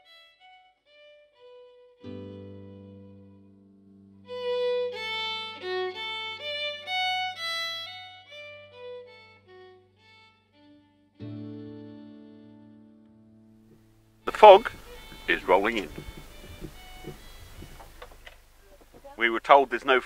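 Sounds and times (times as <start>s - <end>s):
fiddle melody: 0.0s - 3.5s, 4.2s - 13.0s, 14.2s - 20.0s.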